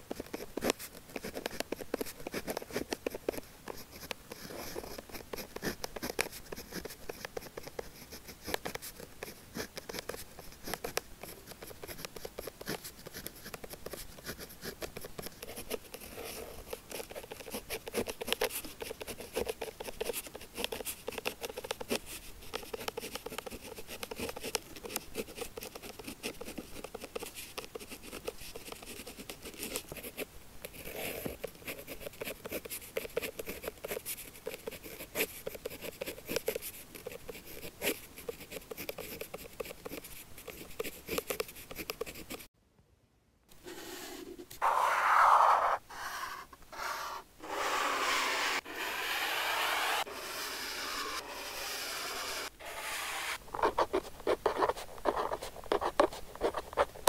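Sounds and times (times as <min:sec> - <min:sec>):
pen scratching on paper: 0:00.1 - 0:42.4, 0:43.6 - 0:57.0.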